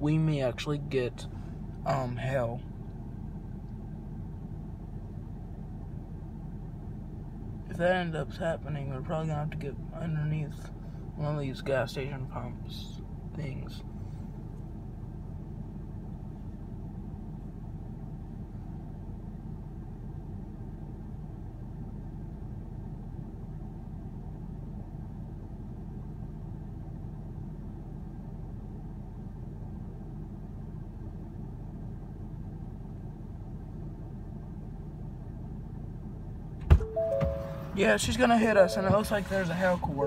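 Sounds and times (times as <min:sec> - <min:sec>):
pickup truck idling: 0:00.4 - 0:40.0.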